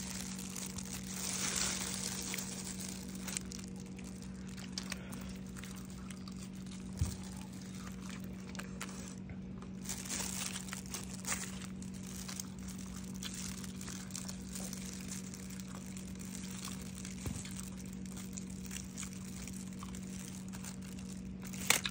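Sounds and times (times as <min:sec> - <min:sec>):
low hum: 0:00.0 - 0:21.9
paper wrapper crinkling: 0:00.0 - 0:21.9.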